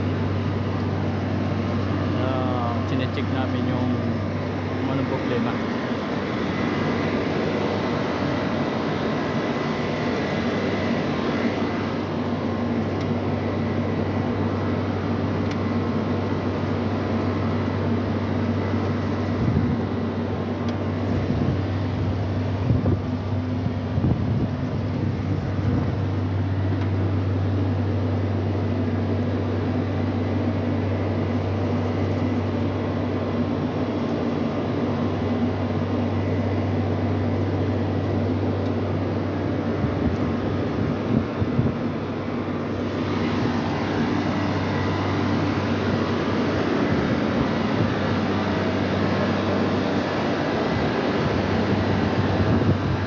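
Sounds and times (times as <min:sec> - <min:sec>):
chiller machinery humming: 0:00.0 - 0:53.0.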